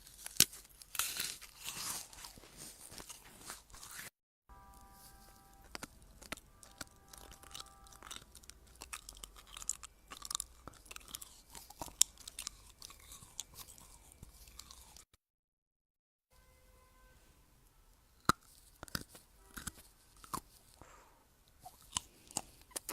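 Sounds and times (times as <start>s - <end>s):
crunchy chewing: 0.0s - 4.1s, 4.7s - 15.1s, 18.2s - 22.9s.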